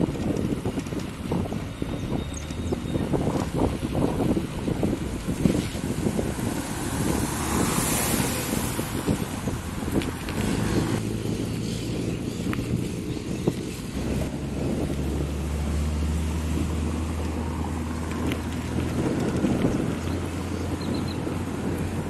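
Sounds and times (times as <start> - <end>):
street traffic: 0.0 - 22.0
wind buffeting microphone: 0.0 - 22.0.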